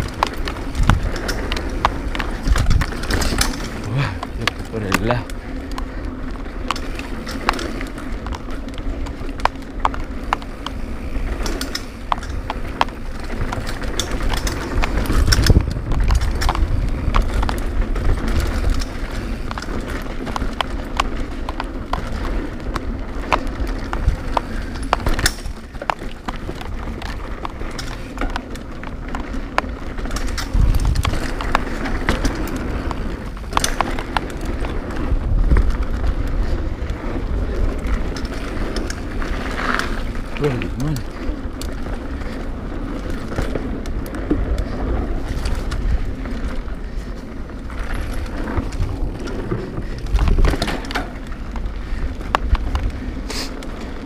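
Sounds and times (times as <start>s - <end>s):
bike clacking and rattling: 0.0s - 54.0s
bike tyres rumbling on dirt: 0.0s - 54.0s
wind buffeting camera: 0.0s - 54.0s.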